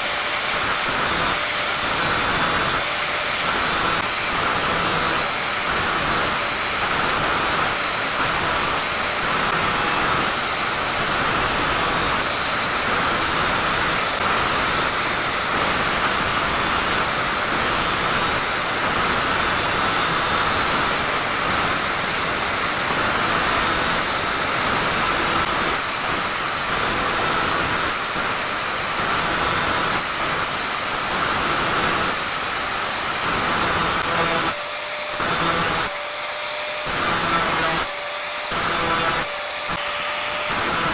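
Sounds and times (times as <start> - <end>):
angle grinder grinding metal: 0.0 - 40.9.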